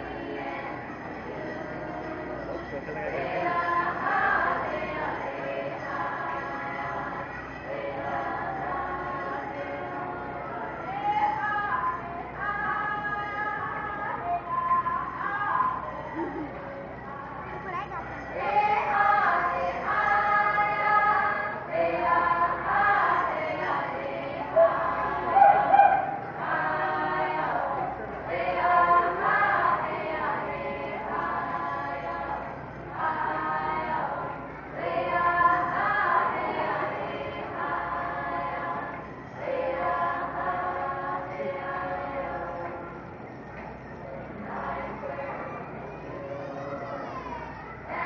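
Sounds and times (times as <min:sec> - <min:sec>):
group singing in unison: 0:00.0 - 0:02.4, 0:03.0 - 0:16.3, 0:18.3 - 0:43.0, 0:44.3 - 0:45.6.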